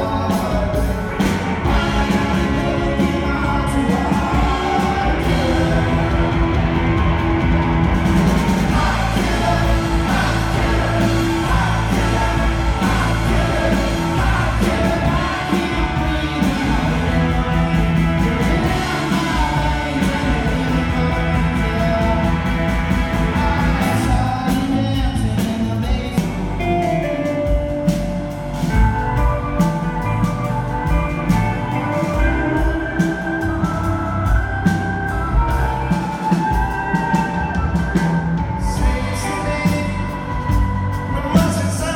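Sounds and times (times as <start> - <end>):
person singing: 0.0 - 28.1, 28.7 - 41.9
drums: 0.0 - 41.9
live rock band: 0.0 - 41.9.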